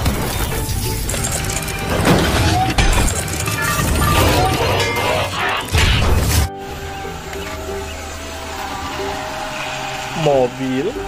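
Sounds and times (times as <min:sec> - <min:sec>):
mechanical clanks and whirs: 0:00.0 - 0:11.0.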